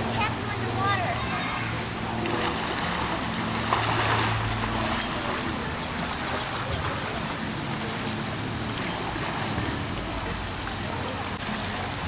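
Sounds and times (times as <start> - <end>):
pool water rushing and splashing: 0.0 - 12.0.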